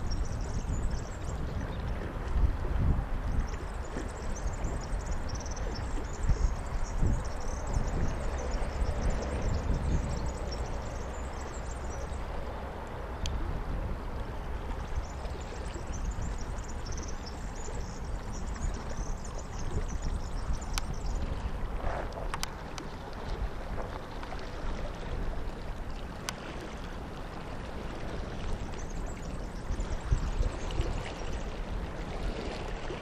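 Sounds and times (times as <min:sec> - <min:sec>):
wind buffeting microphone: 0:00.0 - 0:25.7, 0:26.4 - 0:33.0.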